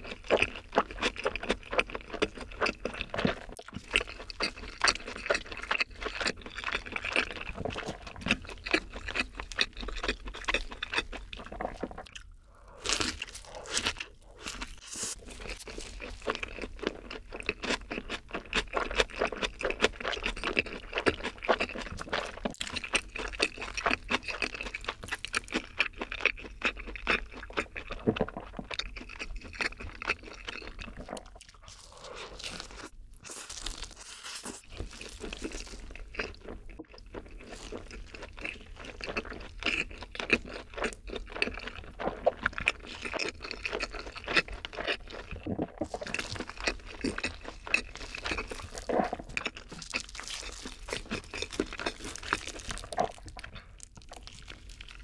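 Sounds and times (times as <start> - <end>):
wet chewing crunches: 0.0 - 55.0.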